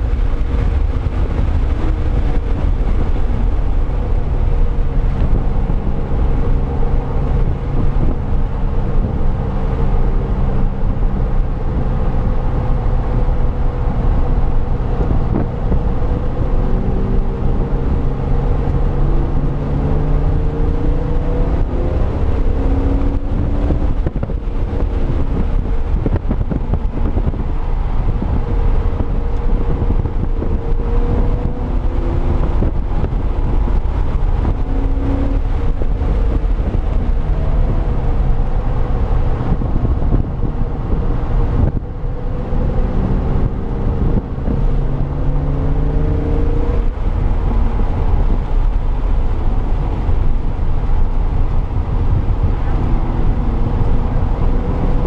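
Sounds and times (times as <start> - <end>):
car engine revving hard: 0.0 - 55.0
wind noise on microphone: 0.0 - 55.0.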